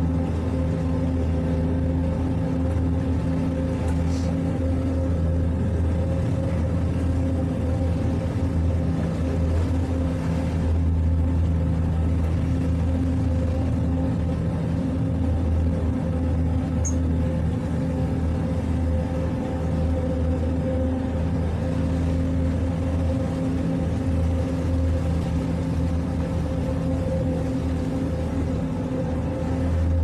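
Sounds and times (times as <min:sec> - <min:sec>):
outboard motors droning: 0:00.0 - 0:30.0.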